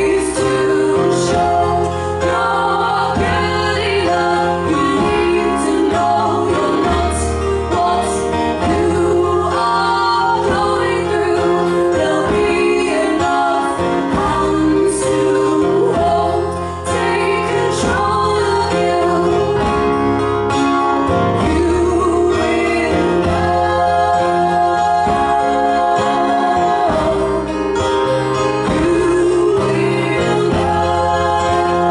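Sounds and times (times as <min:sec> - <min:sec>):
women singing: 0:00.0 - 0:20.6, 0:21.2 - 0:31.9.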